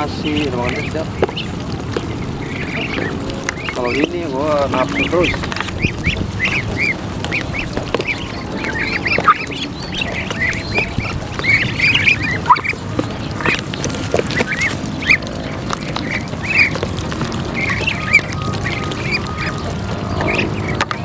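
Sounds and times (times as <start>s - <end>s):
bills working wet feed: 0.0s - 21.0s
ducks calling: 0.0s - 21.0s.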